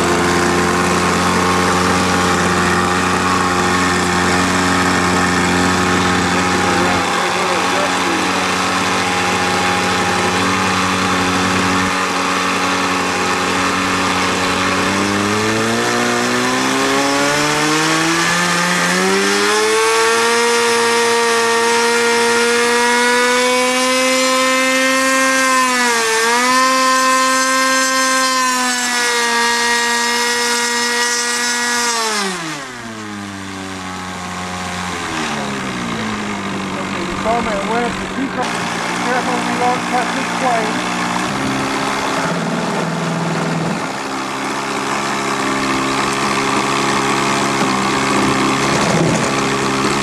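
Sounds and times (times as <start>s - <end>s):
model airplane engine running: 0.0s - 50.0s.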